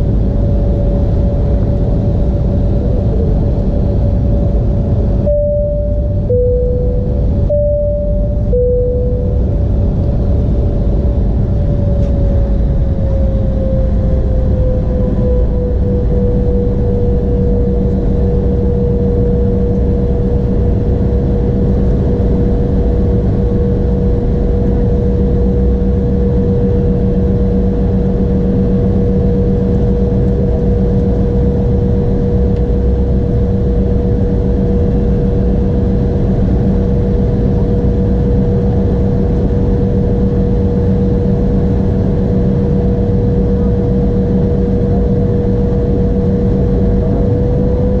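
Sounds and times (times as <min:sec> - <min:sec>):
jet cabin engine rumble and whine: 0:00.0 - 0:48.0.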